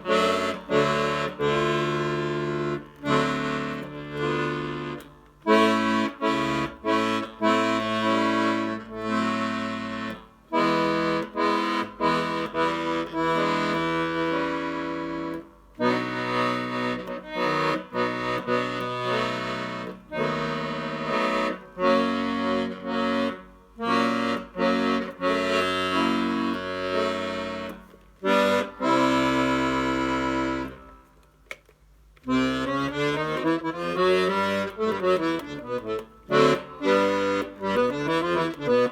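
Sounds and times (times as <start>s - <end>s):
accordion bass notes and chords: 0.0s - 38.9s.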